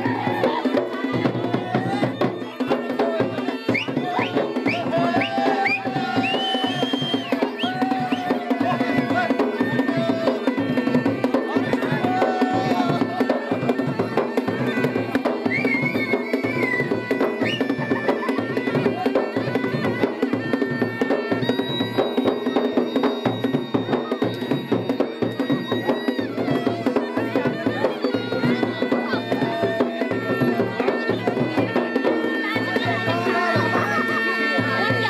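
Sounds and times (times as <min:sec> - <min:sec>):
fast steady drumming: 0:00.0 - 0:35.0.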